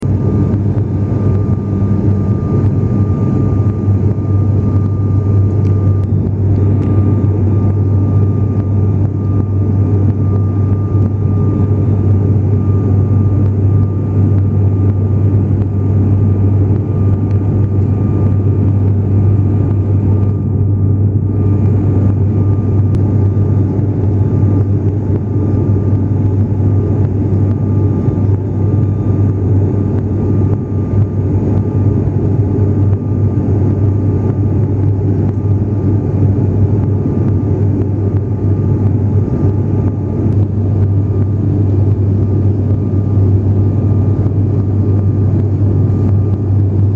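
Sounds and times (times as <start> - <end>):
faint even whine: 0.0 - 46.9
low propeller hum: 0.0 - 46.9.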